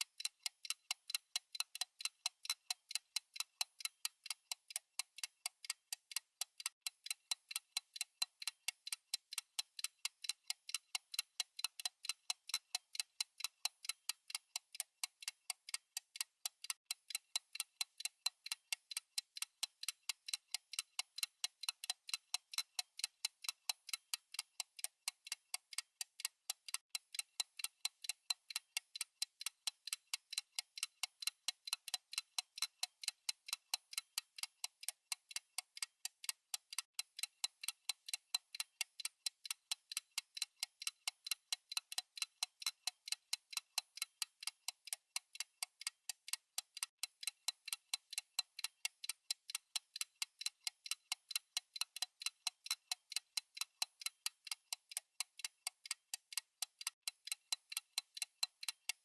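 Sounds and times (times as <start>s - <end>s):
clock ticking rapidly: 0.0s - 59.0s.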